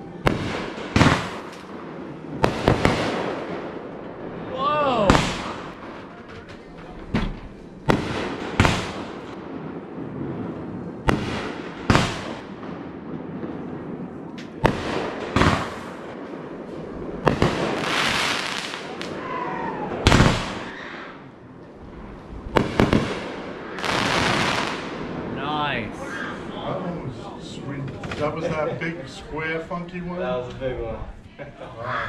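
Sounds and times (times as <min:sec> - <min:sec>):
crackling sparks: 0:00.0 - 0:26.3
fireworks bangs: 0:00.0 - 0:30.9.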